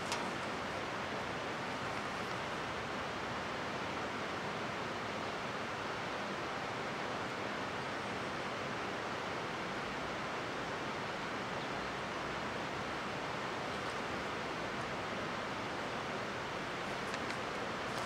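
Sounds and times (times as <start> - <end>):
mountain stream rushing: 0.0 - 18.0.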